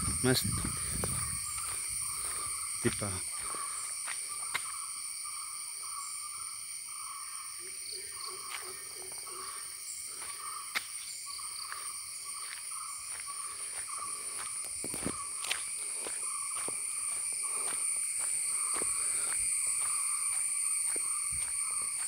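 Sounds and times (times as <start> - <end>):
insect chorus drones: 0.0 - 22.0.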